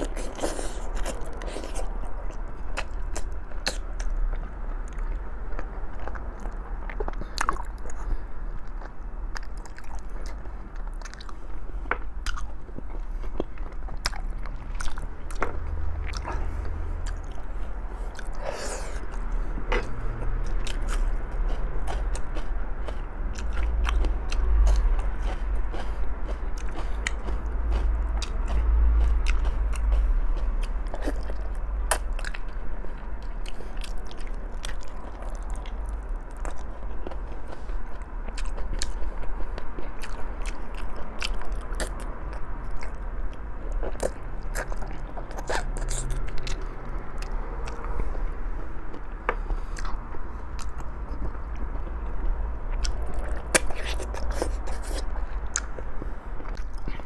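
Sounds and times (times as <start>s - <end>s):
person chewing with wet clicks: 0.0s - 57.0s.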